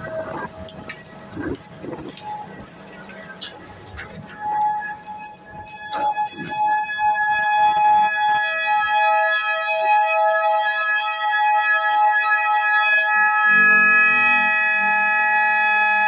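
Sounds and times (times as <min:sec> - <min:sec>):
two-tone electronic siren: 0:00.0 - 0:16.0.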